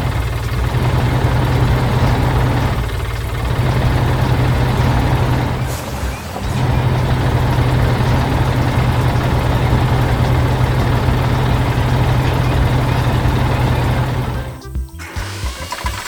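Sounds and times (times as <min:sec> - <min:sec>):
heavy machinery engine humming: 0:00.0 - 0:15.8.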